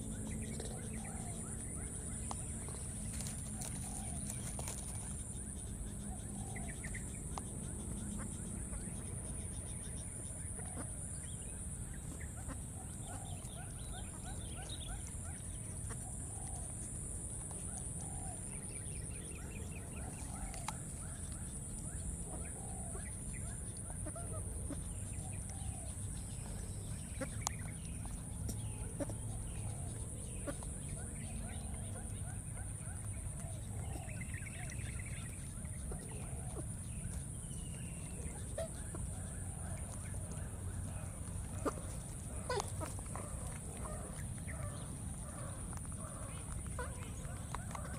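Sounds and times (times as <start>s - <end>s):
birds chirping: 0.0s - 47.9s
faint animal calls: 0.0s - 47.9s.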